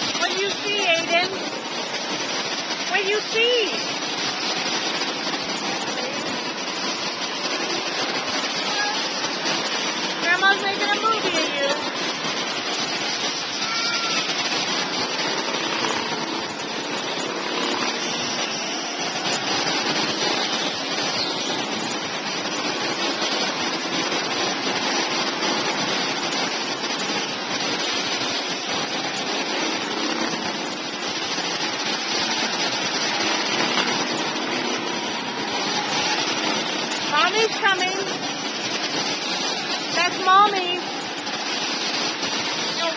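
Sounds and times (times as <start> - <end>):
go-kart engines running: 0.0 - 42.9.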